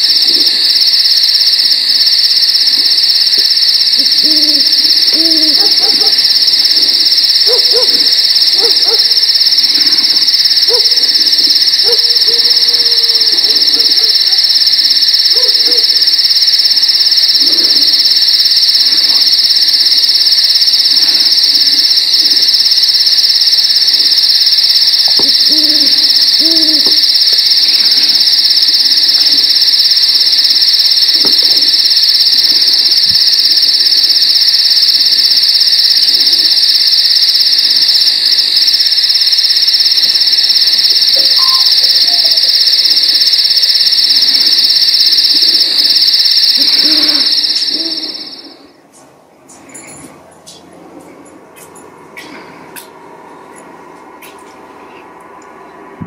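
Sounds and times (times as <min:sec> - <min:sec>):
insects trilling: 0:00.0 - 0:48.8.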